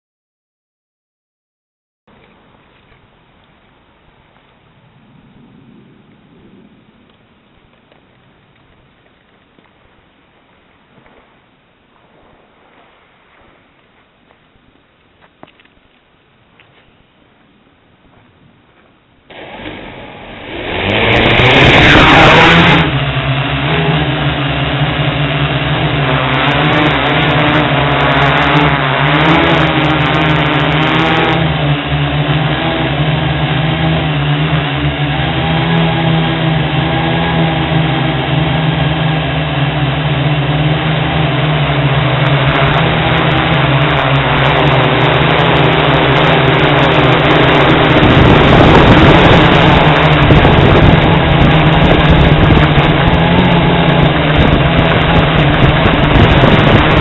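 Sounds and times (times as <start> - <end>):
drone propellers buzzing: 2.2 - 15.7, 16.4 - 57.0.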